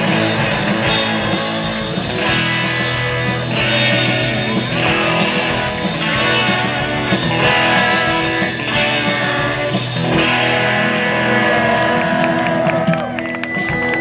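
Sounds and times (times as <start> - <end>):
bass guitar: 0.0 - 14.0
drum kit: 0.0 - 14.0
electric guitars: 0.0 - 14.0.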